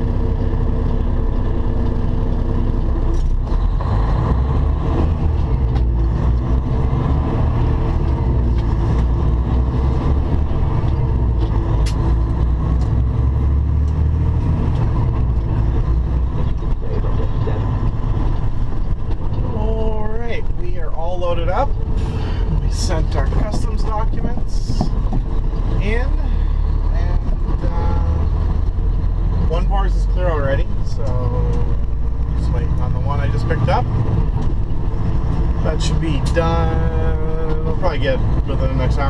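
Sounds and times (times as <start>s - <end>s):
diesel truck engine running: 0.0s - 39.0s
road rumble: 0.0s - 39.0s.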